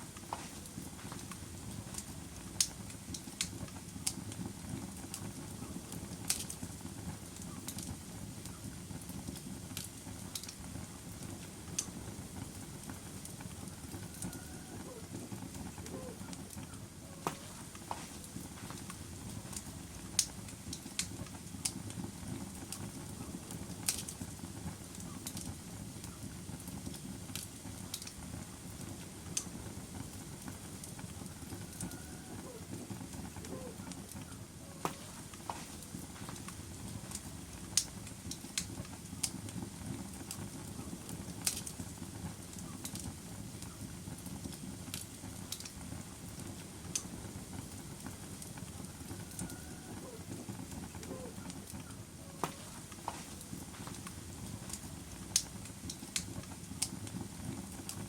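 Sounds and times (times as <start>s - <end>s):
fire crackling and popping: 0.0s - 58.0s
fire flames rumbling: 0.0s - 58.0s.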